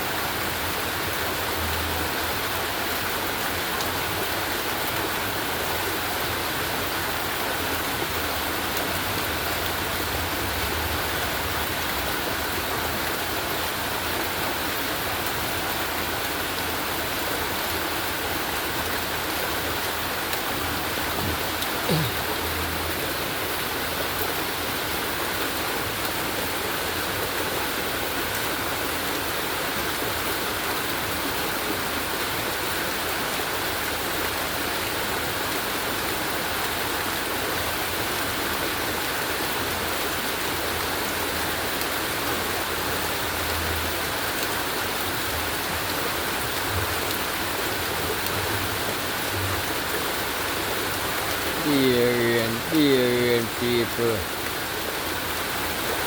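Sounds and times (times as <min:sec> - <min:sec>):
rain falling steadily: 0:00.0 - 0:56.0.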